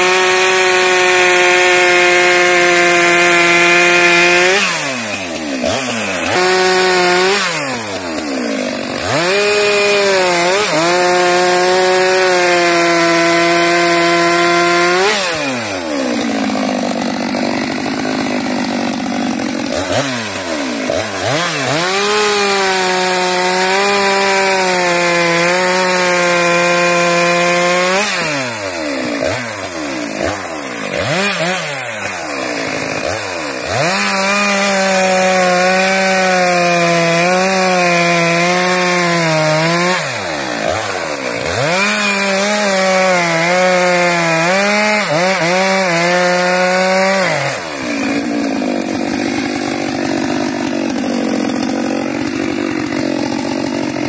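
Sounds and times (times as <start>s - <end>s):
chainsaw cutting through log: 0.0s - 54.0s.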